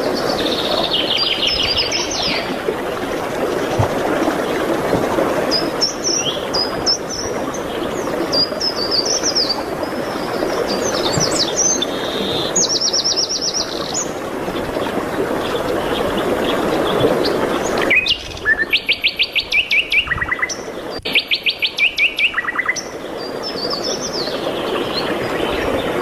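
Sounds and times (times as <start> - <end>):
songbirds singing: 0.0 - 4.7, 5.3 - 26.0.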